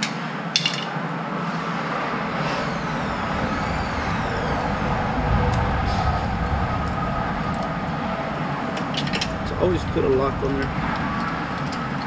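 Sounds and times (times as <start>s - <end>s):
steady low rumble: 1.8s - 12.0s.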